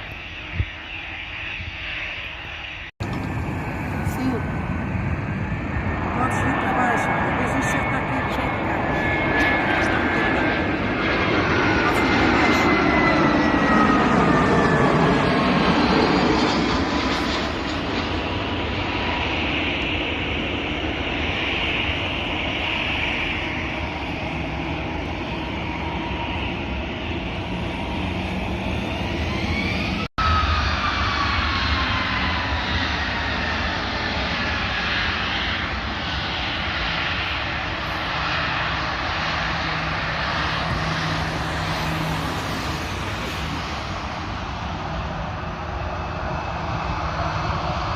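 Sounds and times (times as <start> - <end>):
jet airliner turbine whine: 0.0 - 47.9.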